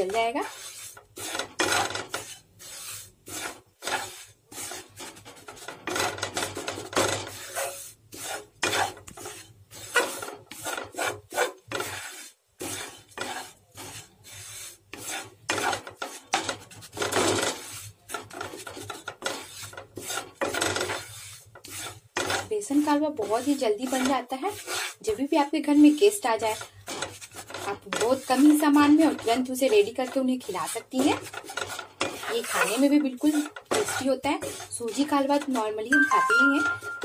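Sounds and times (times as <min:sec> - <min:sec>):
wooden spatula scraping a pan: 0:00.0 - 0:37.0.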